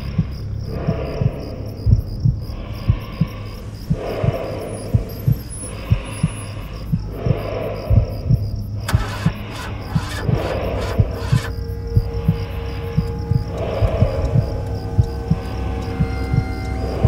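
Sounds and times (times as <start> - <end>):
breathy rushing noise: 0.0 - 17.0
heartbeat thumps: 0.0 - 17.0
low droning hum: 0.0 - 17.0.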